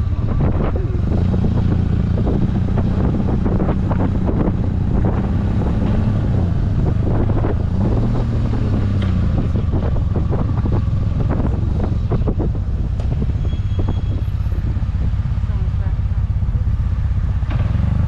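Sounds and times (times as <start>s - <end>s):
motorcycle engine cruising: 0.0s - 18.0s
wind buffeting microphone: 0.0s - 18.0s.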